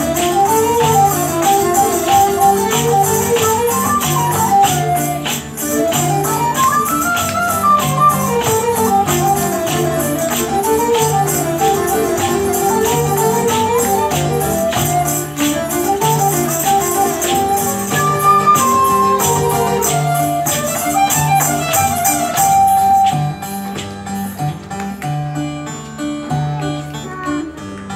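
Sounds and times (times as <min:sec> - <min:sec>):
bowed fiddles playing melody: 0:00.0 - 0:23.8
frame drum with jingles: 0:00.0 - 0:24.7.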